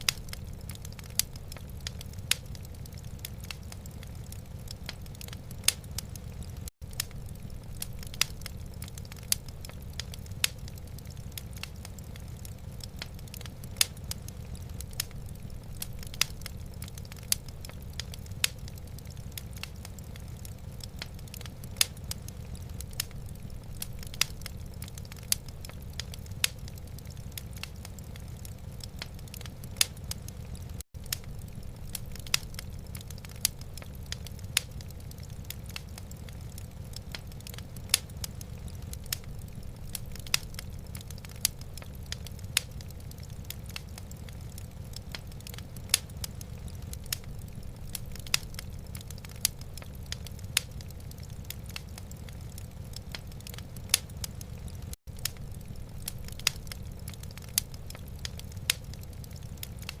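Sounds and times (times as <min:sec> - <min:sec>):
low fire rumble: 0:00.0 - 1:00.0
wood fire crackling and popping: 0:00.0 - 1:00.0.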